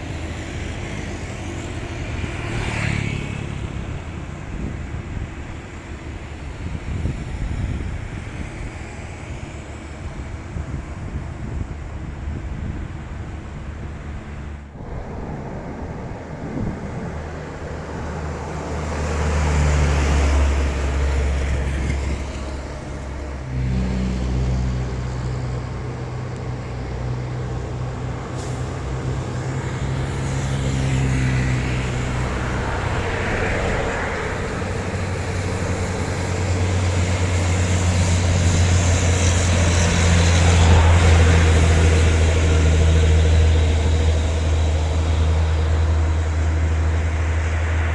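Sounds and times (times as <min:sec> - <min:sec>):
diesel truck engine pulling uphill: 0:00.0 - 0:47.9.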